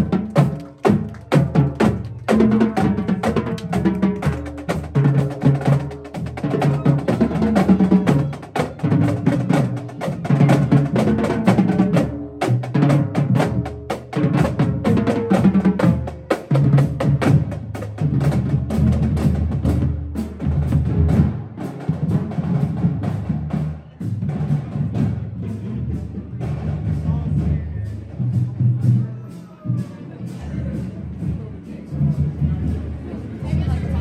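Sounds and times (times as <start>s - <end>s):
snare drums: 0.0s - 31.4s
tenor drums: 0.0s - 34.0s.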